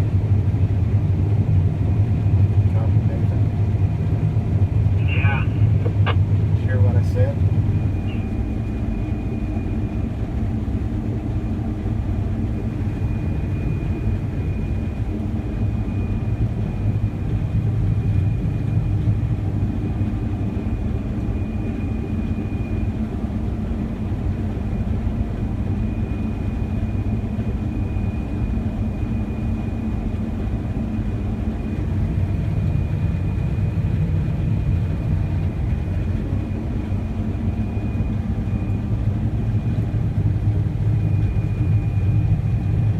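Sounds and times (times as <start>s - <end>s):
combine harvester engine drone: 0.0s - 42.9s
high steady whine: 0.0s - 42.9s.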